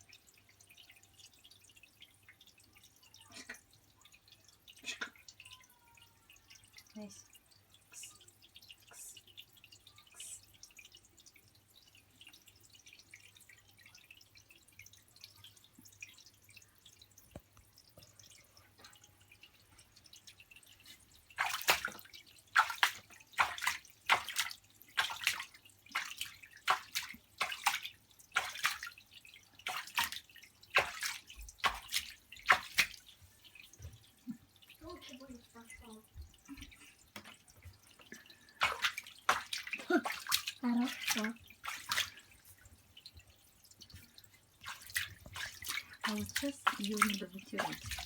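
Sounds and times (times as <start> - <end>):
water splashing in bathtub: 0.0 - 48.0
water trickling: 0.0 - 48.0.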